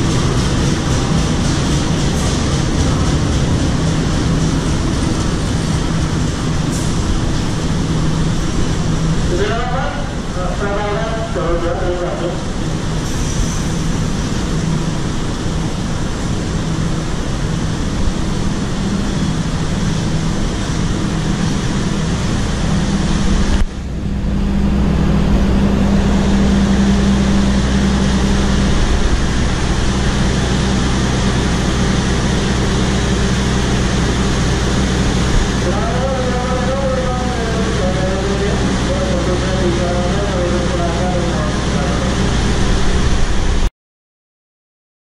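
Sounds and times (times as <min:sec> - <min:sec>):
low mechanical hum: 0:00.0 - 0:43.7
train wheels rumbling on rails: 0:00.0 - 0:43.7.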